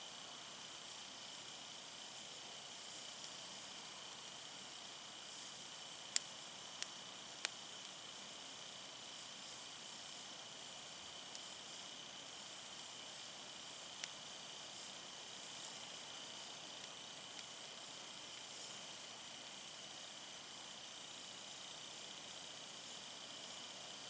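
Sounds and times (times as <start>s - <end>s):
campfire hissing: 0.0s - 24.0s
fire crackles: 0.1s - 24.0s.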